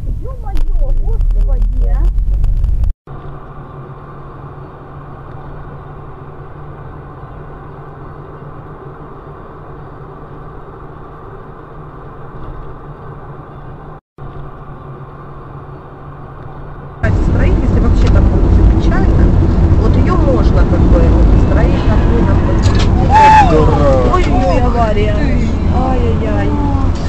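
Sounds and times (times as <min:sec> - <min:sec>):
car engine and tyres drone: 0:00.7 - 0:27.0.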